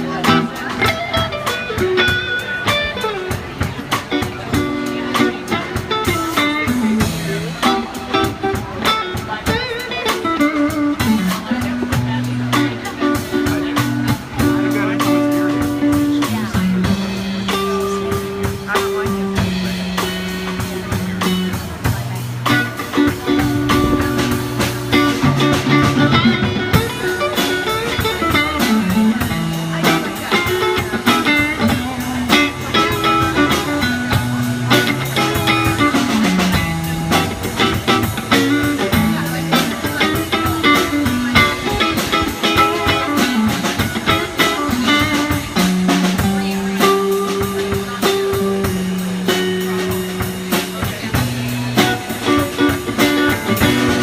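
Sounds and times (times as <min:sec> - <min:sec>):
blues guitar lead: 0:00.0 - 0:54.0
drum beat with cymbals: 0:00.0 - 0:54.0.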